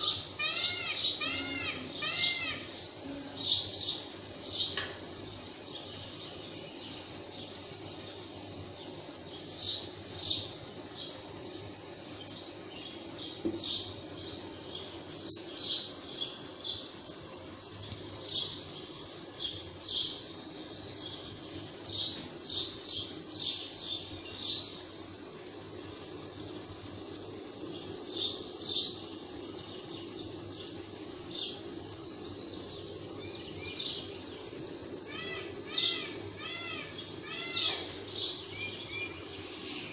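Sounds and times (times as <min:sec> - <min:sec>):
birds chirping: 0:00.0 - 0:39.9
low background hum: 0:00.0 - 0:39.9.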